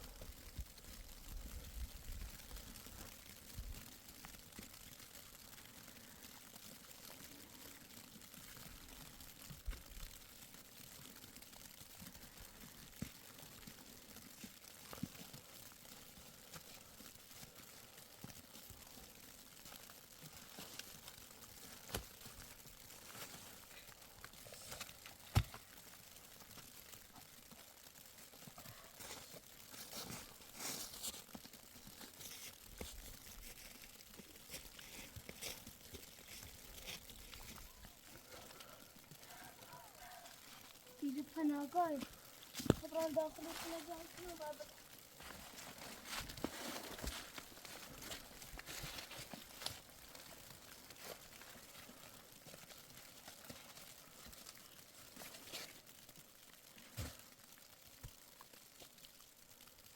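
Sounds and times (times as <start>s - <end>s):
crunching crackles: 0.0s - 59.9s
rustling and crinkling: 0.0s - 59.9s.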